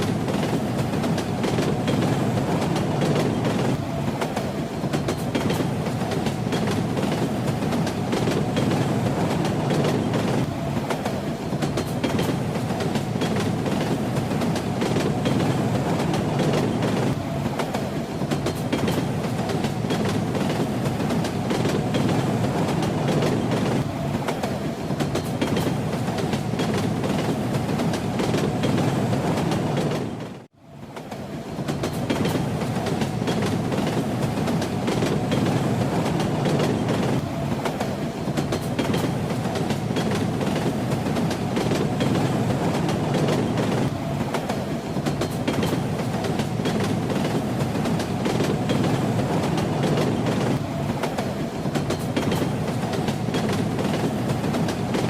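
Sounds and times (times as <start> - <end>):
train wheels clacking on rails: 0.0 - 55.0.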